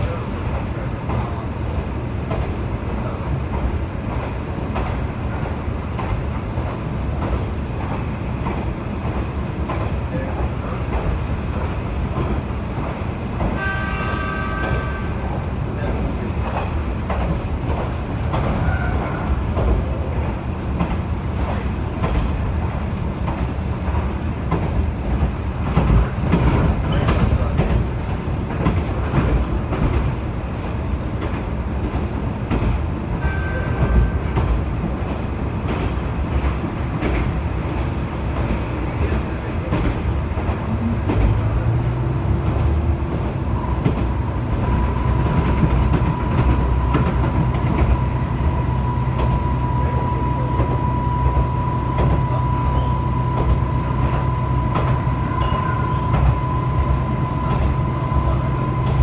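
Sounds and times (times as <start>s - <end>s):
railcar engine and wheels rumbling: 0.0s - 59.0s.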